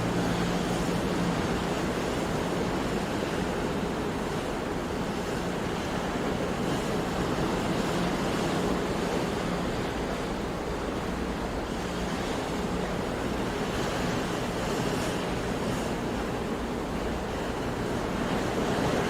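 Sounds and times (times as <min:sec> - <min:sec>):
sea waves washing: 0:00.0 - 0:19.0.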